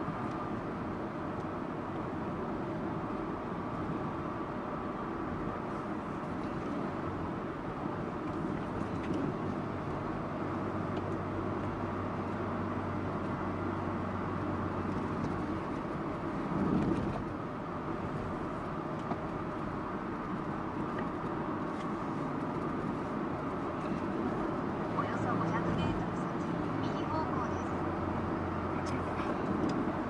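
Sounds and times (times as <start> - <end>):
car engine low hum: 0.0 - 30.0
road and cabin noise: 0.0 - 30.0.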